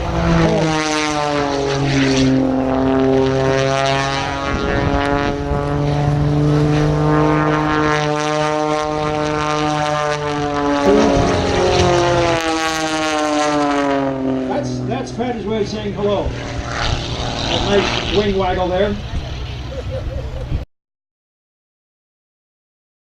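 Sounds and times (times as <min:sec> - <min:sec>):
propeller plane engine droning: 0:00.0 - 0:20.7.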